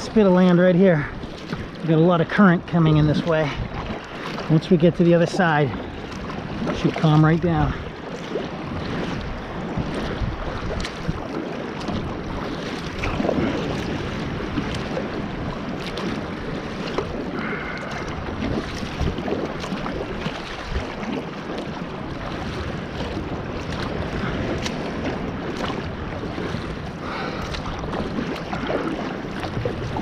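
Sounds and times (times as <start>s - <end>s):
water splashing along kayak hull: 0.0s - 30.0s
wind buffeting microphone: 0.0s - 30.0s.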